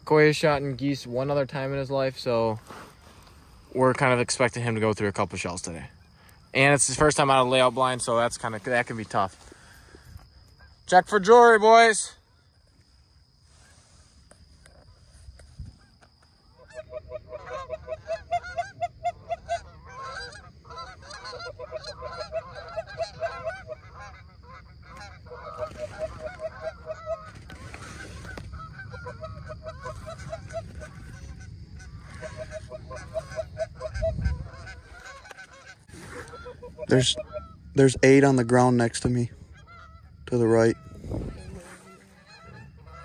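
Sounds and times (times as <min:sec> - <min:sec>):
geese honking: 0:00.1 - 0:12.6, 0:14.8 - 0:43.0.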